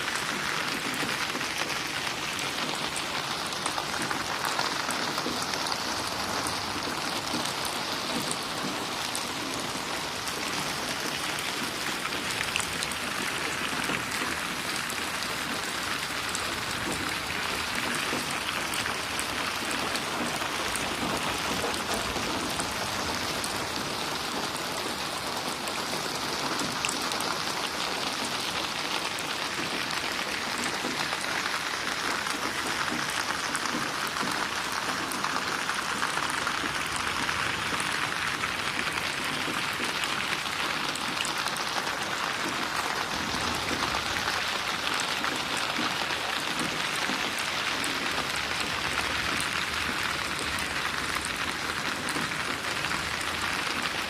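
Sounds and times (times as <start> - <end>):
rain splashing on a surface: 0.0 - 54.0.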